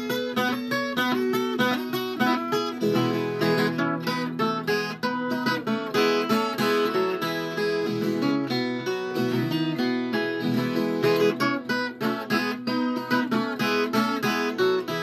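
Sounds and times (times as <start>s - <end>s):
picked guitar melody: 0.0s - 15.0s.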